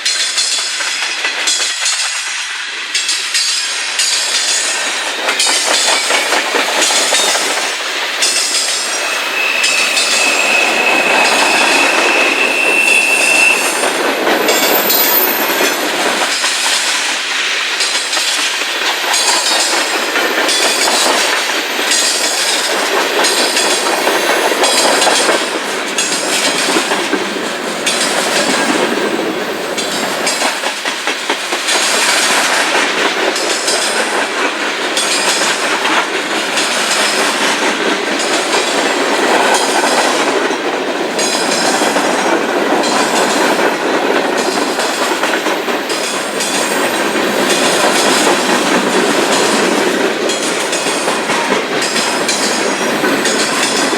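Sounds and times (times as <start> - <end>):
steel wheels clattering on rails: 0.0 - 53.9.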